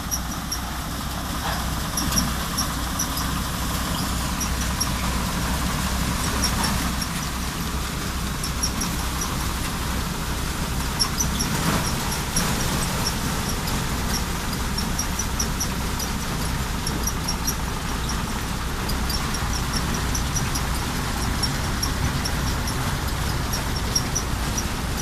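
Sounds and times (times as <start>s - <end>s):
rice thresher machine drone: 0.0s - 25.0s
short high squeaks: 0.0s - 25.0s.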